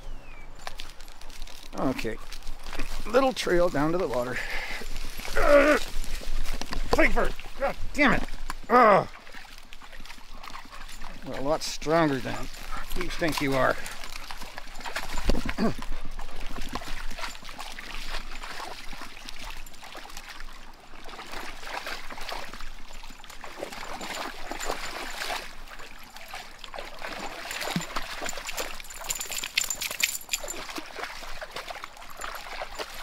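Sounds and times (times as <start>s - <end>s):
creek water trickling over rocks: 0.1s - 33.0s
dogs splashing in water: 0.8s - 33.0s.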